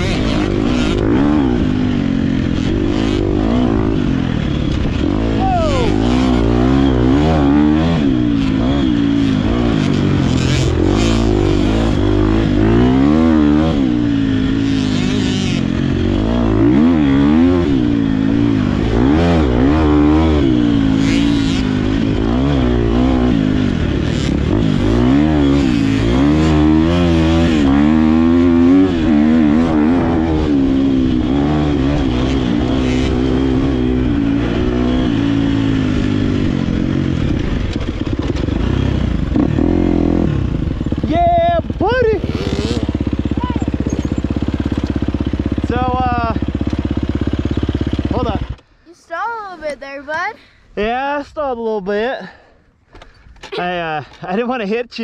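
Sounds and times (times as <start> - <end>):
motocross engine revving: 0.0 - 50.3.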